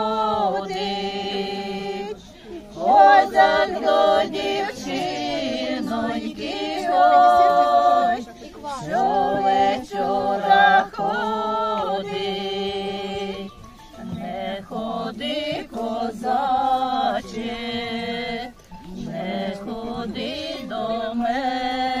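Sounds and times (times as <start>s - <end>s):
women singing unaccompanied: 0.0s - 22.0s.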